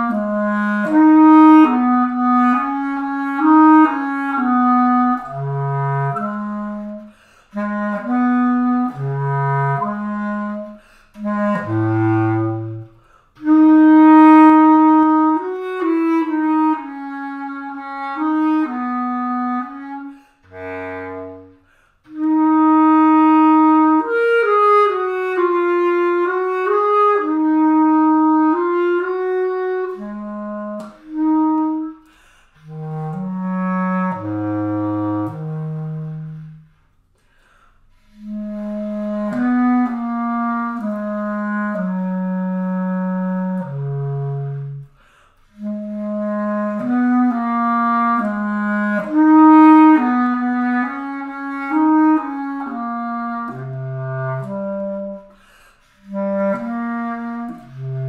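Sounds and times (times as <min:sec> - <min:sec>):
bass clarinet melody: 0:00.0 - 0:37.0, 0:37.9 - 0:58.0.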